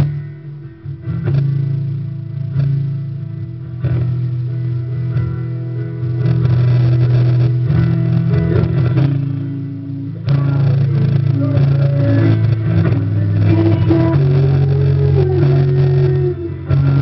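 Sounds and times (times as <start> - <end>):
song with guitar and bass: 0.0 - 17.0.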